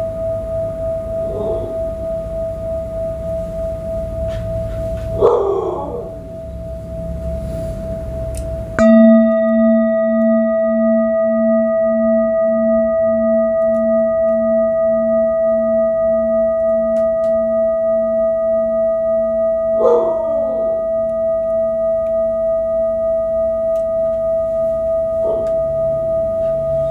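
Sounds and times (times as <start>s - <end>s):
metal singing bowl ringing: 0.0s - 26.9s.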